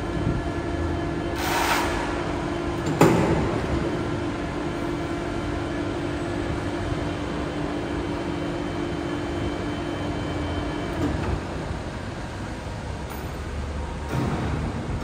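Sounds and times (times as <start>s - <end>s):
crane hoist motor whine: 0.0s - 15.0s.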